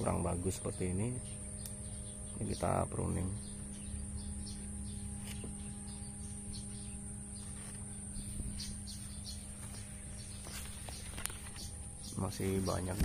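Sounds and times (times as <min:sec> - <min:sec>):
insects high-pitched drone: 0:00.0 - 0:13.0
low steady hum: 0:00.0 - 0:13.0.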